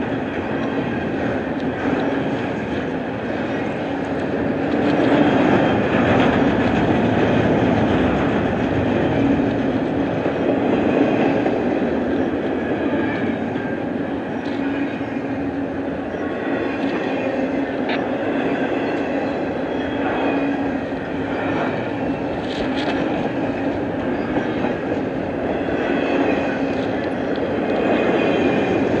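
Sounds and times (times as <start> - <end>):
freight train wheels clattering: 0.0 - 29.0.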